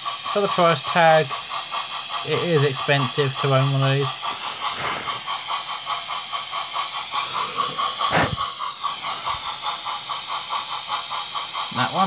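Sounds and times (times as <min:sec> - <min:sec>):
model steam locomotive chuffs: 0:00.0 - 0:12.0
steam hiss: 0:00.0 - 0:12.0.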